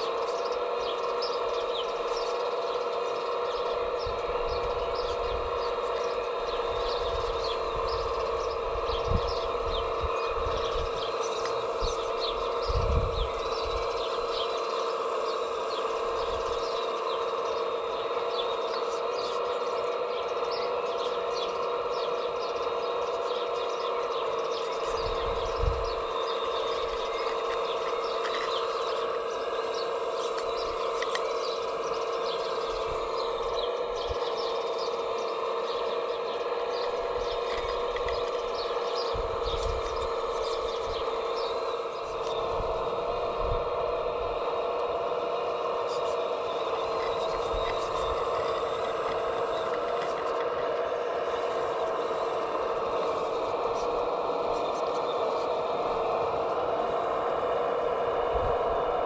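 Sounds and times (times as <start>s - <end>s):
birds chirping: 0.0s - 59.0s
electric motor whine: 0.0s - 59.0s.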